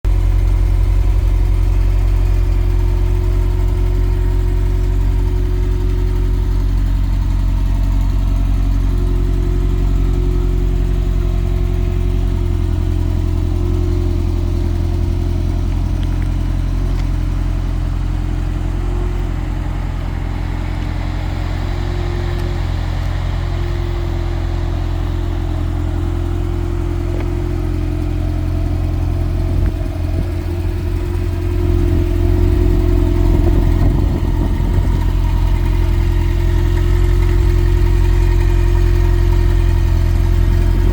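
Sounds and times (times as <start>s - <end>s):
car engine idling: 0.0s - 40.9s
engine noise at idle: 0.0s - 40.9s.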